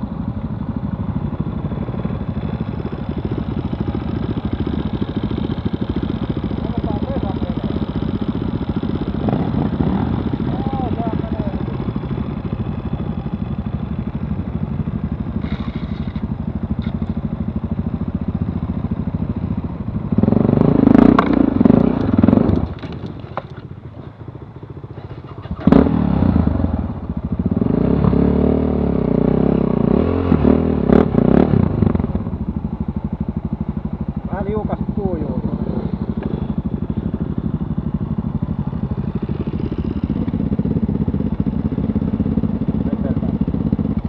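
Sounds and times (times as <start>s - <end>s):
motorcycle engine: 0.0s - 44.0s.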